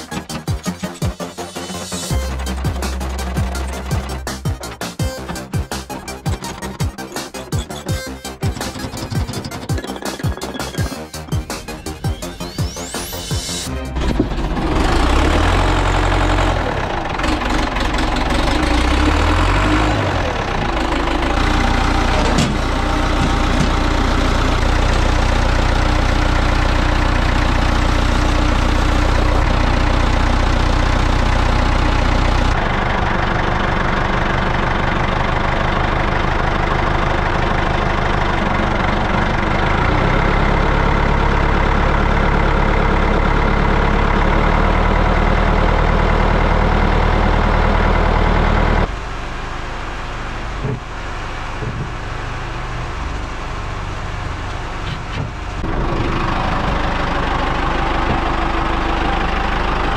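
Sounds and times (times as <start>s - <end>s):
diesel tractor engine idling: 0.0s - 59.9s.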